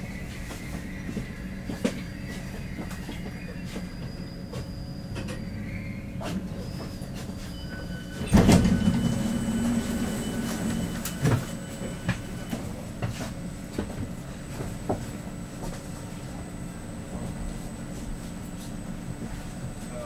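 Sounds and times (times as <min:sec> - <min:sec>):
train wheels rumbling on rails: 0:00.0 - 0:20.0
faint high whine: 0:03.8 - 0:20.0.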